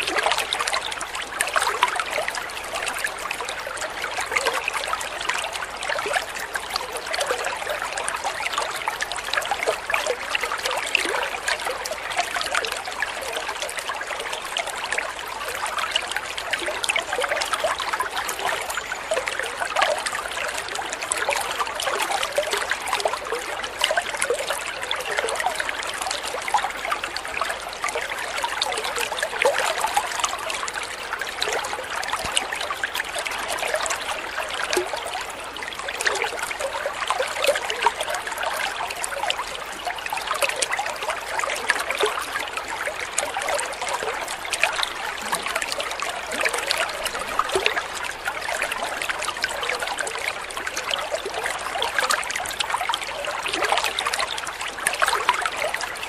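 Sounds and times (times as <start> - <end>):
water trickling into a pond: 0.0 - 56.0.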